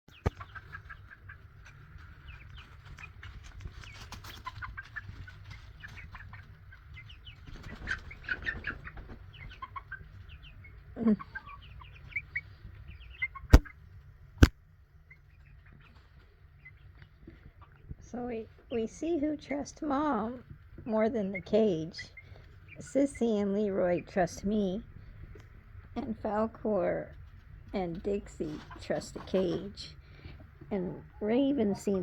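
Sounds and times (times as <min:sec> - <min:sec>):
chicks peeping and clucking: 0:00.1 - 0:32.0.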